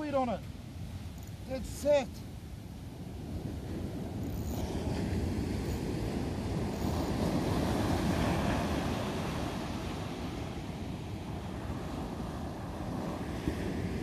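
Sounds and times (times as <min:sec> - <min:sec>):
ocean surf washing onto beach: 0:00.0 - 0:14.0
wind buffeting microphone: 0:00.0 - 0:14.0.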